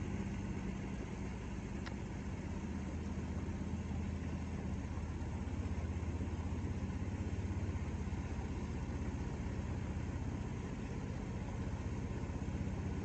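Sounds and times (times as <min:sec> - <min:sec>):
boat motor running steadily: 0:00.0 - 0:13.0.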